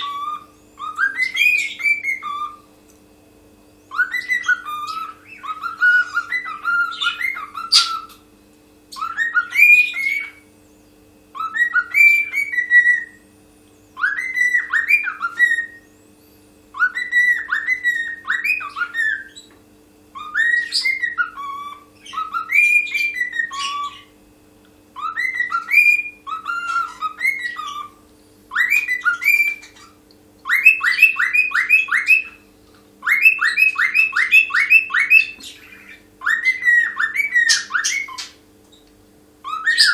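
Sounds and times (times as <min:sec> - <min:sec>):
cockatiel whistling: 0:00.0 - 0:02.7, 0:03.9 - 0:08.2, 0:08.9 - 0:10.4, 0:11.3 - 0:13.2, 0:14.0 - 0:15.9, 0:16.7 - 0:19.6, 0:20.2 - 0:24.1, 0:25.0 - 0:32.4, 0:33.0 - 0:38.4, 0:39.4 - 0:39.9.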